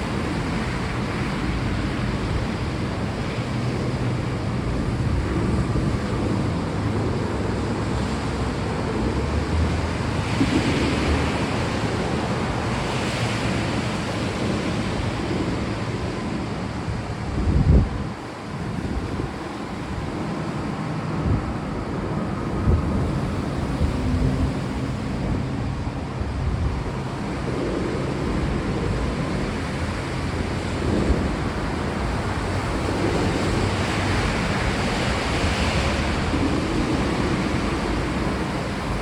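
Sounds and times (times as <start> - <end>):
steady rain: 0.0 - 17.2, 17.9 - 39.0.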